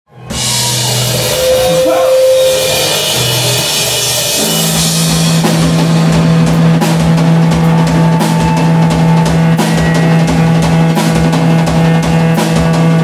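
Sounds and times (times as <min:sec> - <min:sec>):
rock band playing live: 0:00.1 - 0:13.0.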